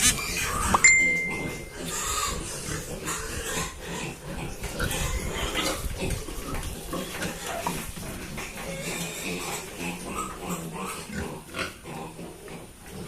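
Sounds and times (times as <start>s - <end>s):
pigs grunting: 1.7s - 13.0s.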